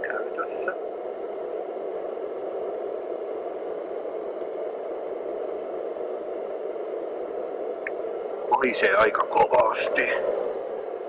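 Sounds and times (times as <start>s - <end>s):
gas burner whooshing: 0.6s - 11.0s.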